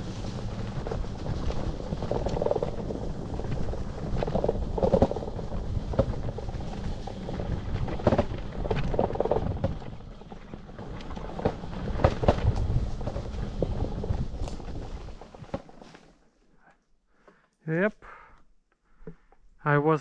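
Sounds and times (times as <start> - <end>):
wind and rolling rumble: 0.0 - 16.2.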